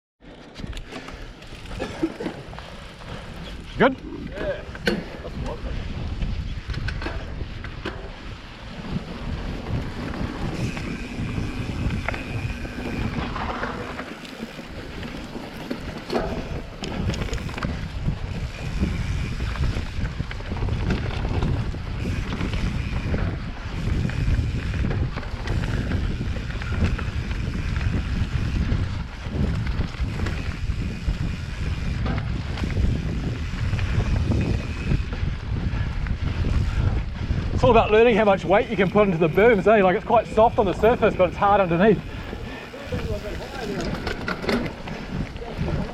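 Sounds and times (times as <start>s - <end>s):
bike knocking and rattling: 0.2s - 45.9s
wind buffeting microphone: 0.5s - 45.9s.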